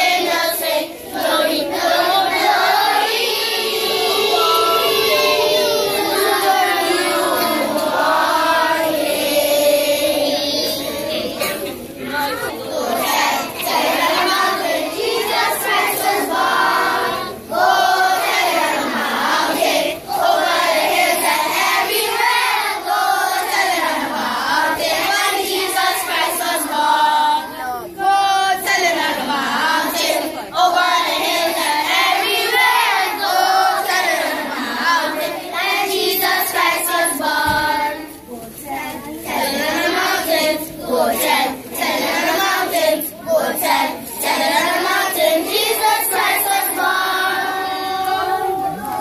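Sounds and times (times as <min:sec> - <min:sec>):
children singing a carol: 0:00.0 - 0:49.0.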